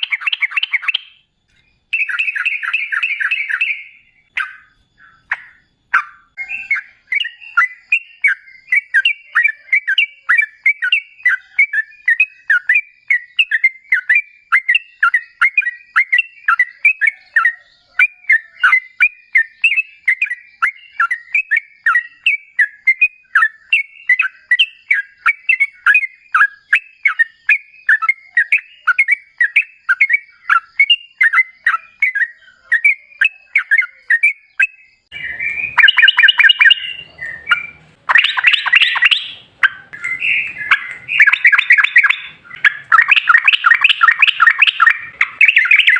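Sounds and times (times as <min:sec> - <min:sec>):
bird singing bubbly phrases: 0:00.0 - 0:01.2, 0:01.8 - 0:45.9.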